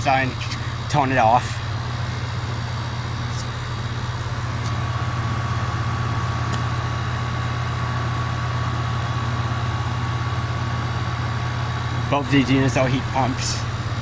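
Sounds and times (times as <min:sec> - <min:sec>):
heat pump humming: 0:00.0 - 0:14.0.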